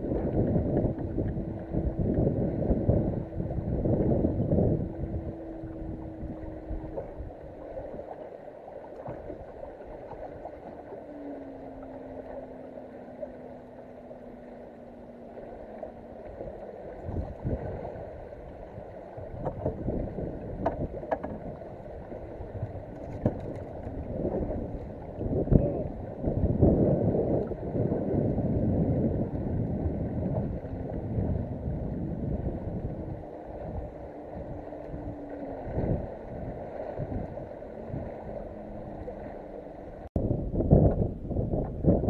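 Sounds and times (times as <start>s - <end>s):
wind buffeting microphone: 0.0s - 8.1s, 10.2s - 42.0s
electric trolling motor hum: 0.0s - 42.0s
water slapping against hull: 0.0s - 42.0s.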